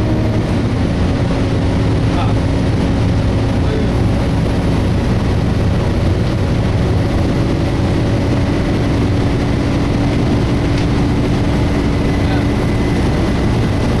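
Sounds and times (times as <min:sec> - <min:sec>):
bus engine running: 0:00.0 - 0:14.0
radiator cooling fan: 0:00.0 - 0:14.0.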